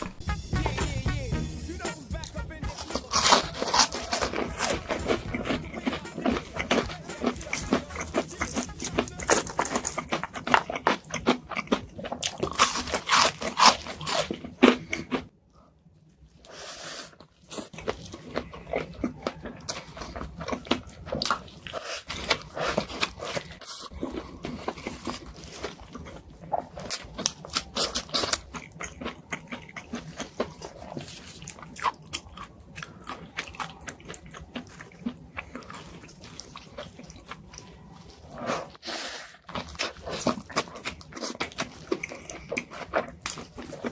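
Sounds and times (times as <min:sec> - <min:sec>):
person crunching crisp food: 0:00.0 - 0:00.2, 0:02.2 - 0:15.3, 0:16.4 - 0:43.9
chewing and smacking: 0:02.7 - 0:15.3, 0:17.1 - 0:38.8, 0:39.4 - 0:43.9.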